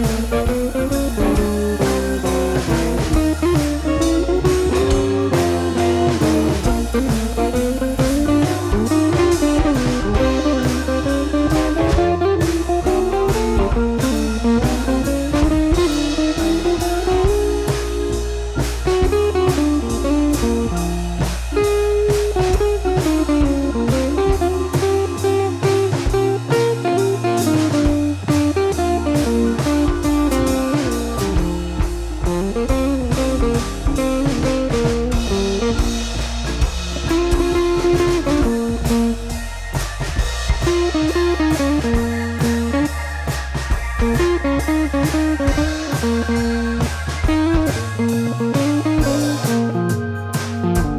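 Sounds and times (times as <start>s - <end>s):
blues guitar with bass and drums: 0.0s - 50.9s.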